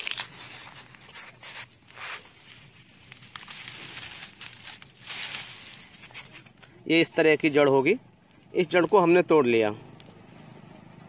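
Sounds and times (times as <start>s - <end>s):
dry plant stems rustling and crackling: 0.0s - 9.2s.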